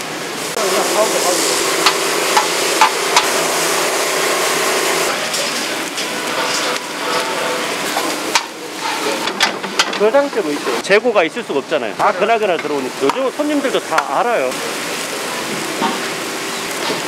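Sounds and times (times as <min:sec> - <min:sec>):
food sizzling in a pan: 0:00.3 - 0:09.3, 0:10.0 - 0:17.0.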